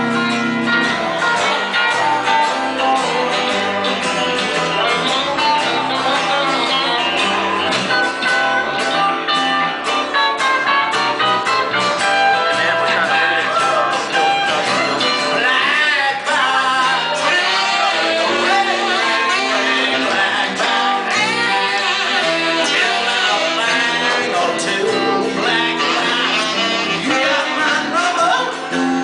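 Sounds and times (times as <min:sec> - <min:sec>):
bending lead melody: 0:00.0 - 0:29.0
guitar playing: 0:00.0 - 0:29.0
live band music: 0:00.0 - 0:29.0.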